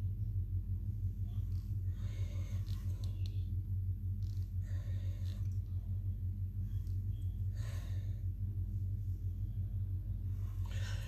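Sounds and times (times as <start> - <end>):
steady low hum: 0.0 - 11.0
soft breath: 1.2 - 3.6, 4.2 - 11.0.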